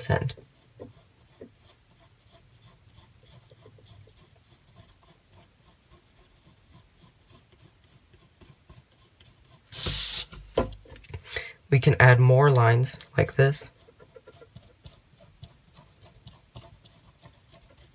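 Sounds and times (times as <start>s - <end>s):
pencil scratching on paper: 0.0s - 10.4s, 13.0s - 17.9s.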